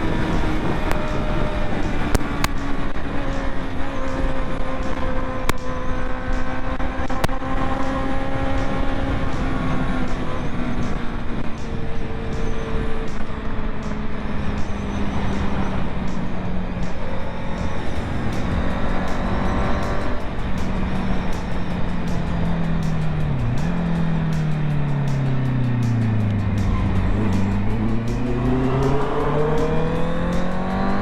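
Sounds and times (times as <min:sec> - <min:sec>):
motorcycle engine cruising: 0:00.0 - 0:31.0
wind and road noise: 0:00.0 - 0:31.0.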